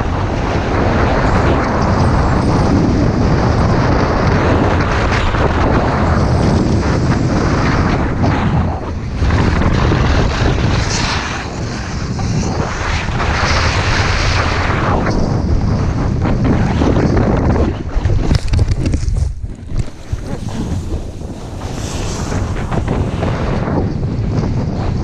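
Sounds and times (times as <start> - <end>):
wind buffeting the microphone: 0.0 - 25.0.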